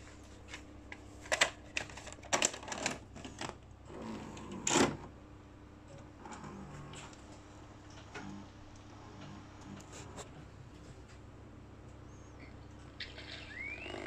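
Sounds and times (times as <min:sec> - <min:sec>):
vcr mechanism whirring clatter: 0:00.0 - 0:12.9
faint steady hum: 0:00.0 - 0:14.0.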